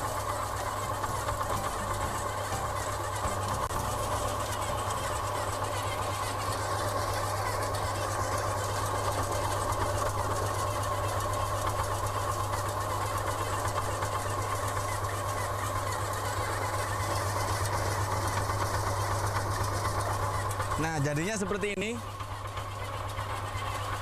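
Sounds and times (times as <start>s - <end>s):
pellet machine humming: 0.0s - 24.0s.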